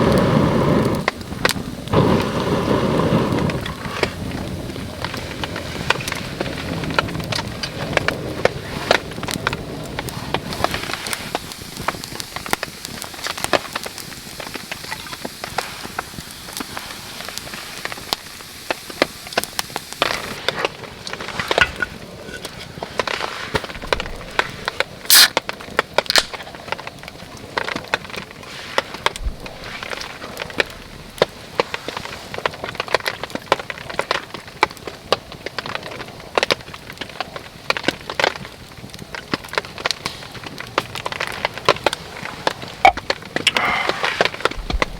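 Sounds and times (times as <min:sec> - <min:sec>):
rain hiss: 0:00.0 - 0:44.9
wood crackling and snapping: 0:00.0 - 0:44.9.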